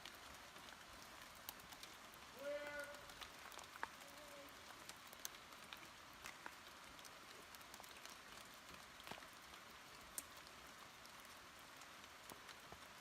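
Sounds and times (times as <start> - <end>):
faint steady hiss: 0.0 - 13.0
light clicks and ticks: 1.3 - 2.0, 2.9 - 12.9.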